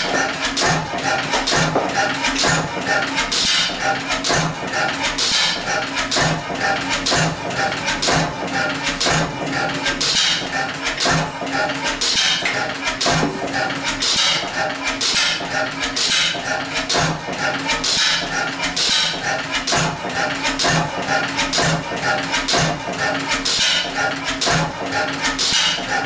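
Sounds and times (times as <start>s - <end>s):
stationary engine beating: 0.0s - 26.0s.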